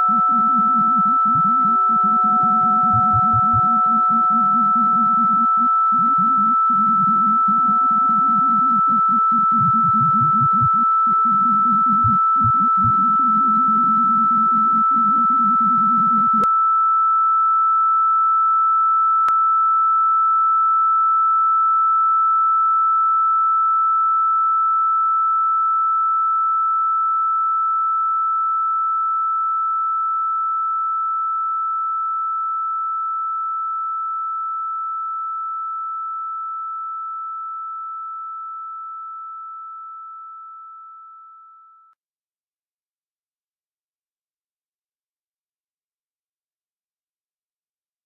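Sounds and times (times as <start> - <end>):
high electronic sine tone: 0.0 - 42.0.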